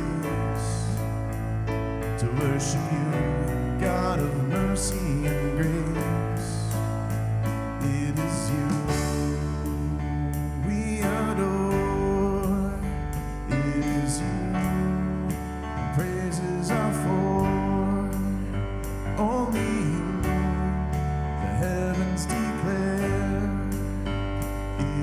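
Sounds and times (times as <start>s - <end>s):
person singing: 0.0s - 1.3s, 2.0s - 6.9s, 7.5s - 25.0s
electric bass: 0.0s - 25.0s
piano chords: 0.0s - 25.0s.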